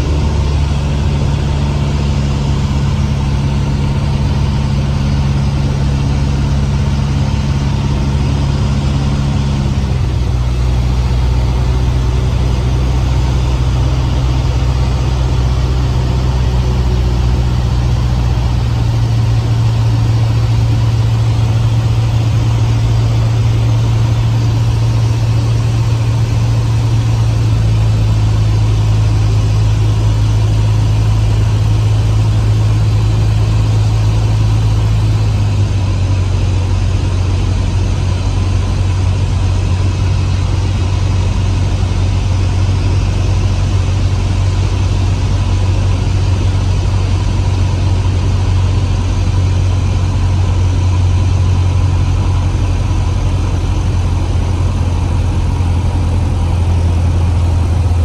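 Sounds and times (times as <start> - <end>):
light aircraft engine running: 0.0 - 58.0.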